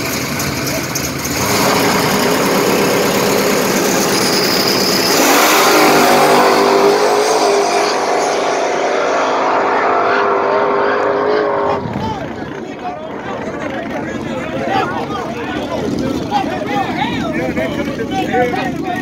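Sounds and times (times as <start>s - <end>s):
drag car engine at full throttle: 0.0s - 19.0s.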